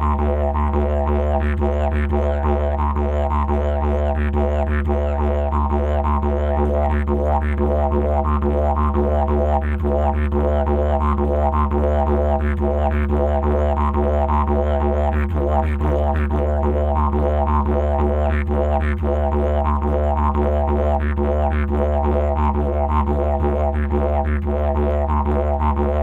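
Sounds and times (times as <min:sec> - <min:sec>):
didgeridoo drone: 0:00.0 - 0:26.0.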